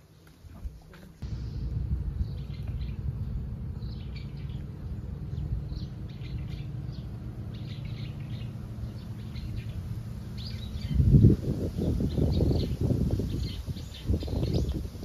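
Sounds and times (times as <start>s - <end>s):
small birds chirping: 0.0s - 15.0s
low rumble: 1.2s - 14.8s.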